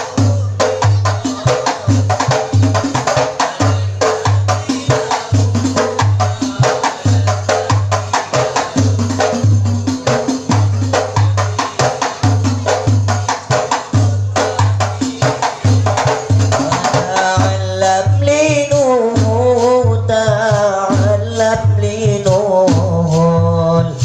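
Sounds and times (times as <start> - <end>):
deep bass drum beat: 0.0 - 24.0
hand drums fast rhythm: 0.0 - 24.0.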